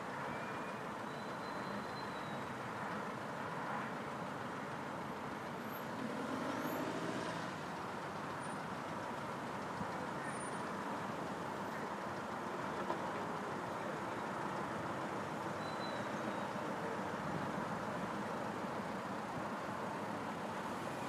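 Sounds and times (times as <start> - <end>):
heavy vehicle engines running: 0.0 - 21.0.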